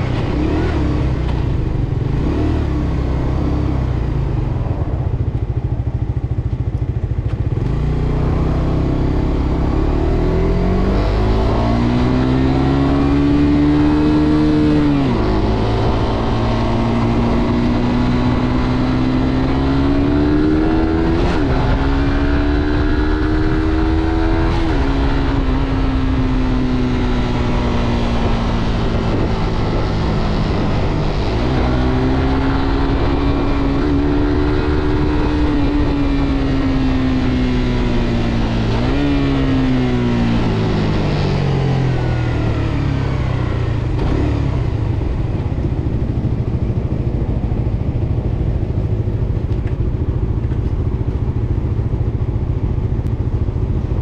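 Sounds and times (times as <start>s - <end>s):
motorcycle engine accelerating: 0.0s - 54.0s
wind and road noise: 0.0s - 54.0s.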